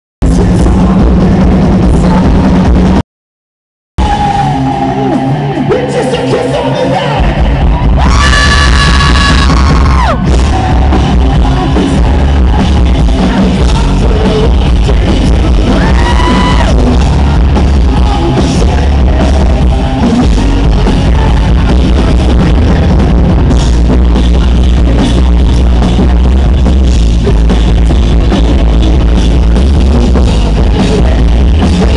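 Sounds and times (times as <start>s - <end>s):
live rock band playing: 4.0s - 31.9s.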